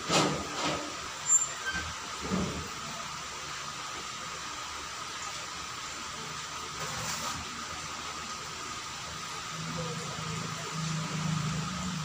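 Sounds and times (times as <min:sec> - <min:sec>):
electric fan hissing: 0:00.0 - 0:12.0.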